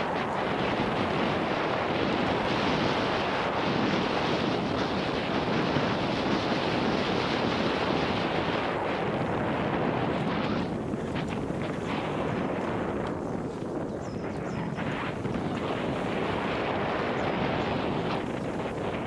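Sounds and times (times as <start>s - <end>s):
bike tyres rumbling and rattling: 0.0s - 19.0s
wind rushing over microphone: 0.0s - 19.0s.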